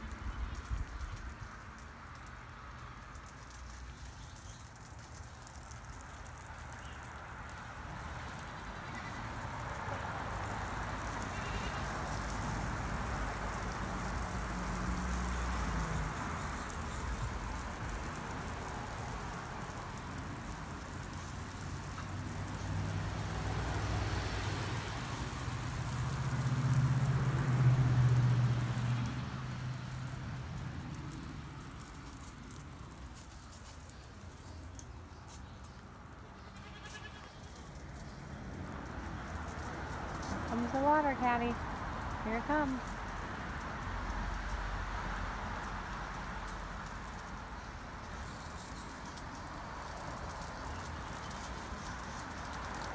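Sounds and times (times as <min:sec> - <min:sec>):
hose spraying water onto ground: 0:00.0 - 0:52.9.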